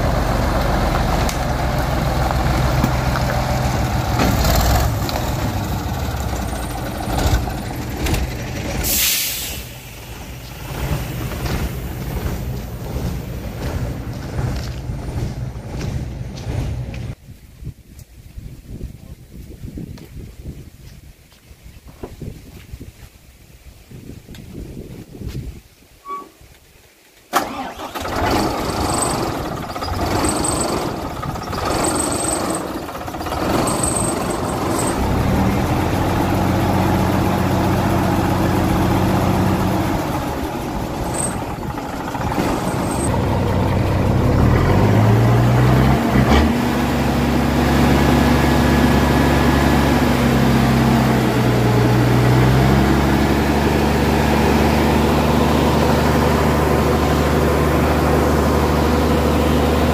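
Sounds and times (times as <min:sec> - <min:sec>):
truck engine revving: 0:00.0 - 0:17.2, 0:27.4 - 0:59.9.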